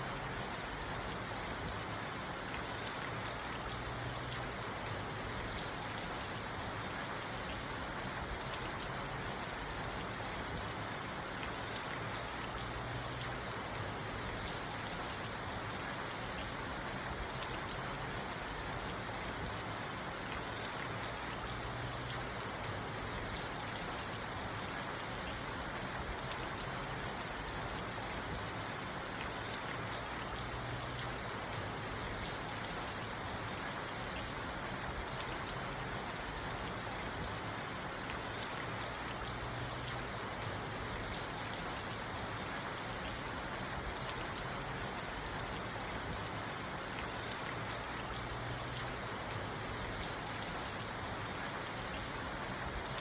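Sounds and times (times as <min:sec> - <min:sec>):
rain pattering on a car: 0:00.0 - 0:53.0.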